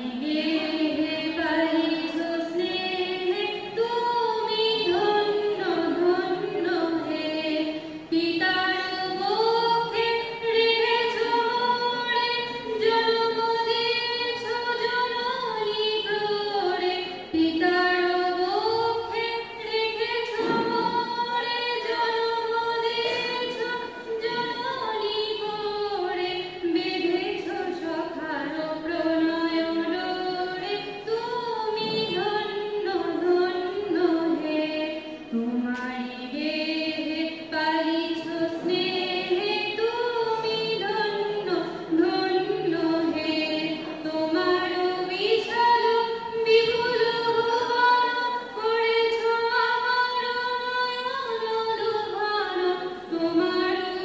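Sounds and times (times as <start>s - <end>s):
women singing unaccompanied: 0.0s - 54.0s.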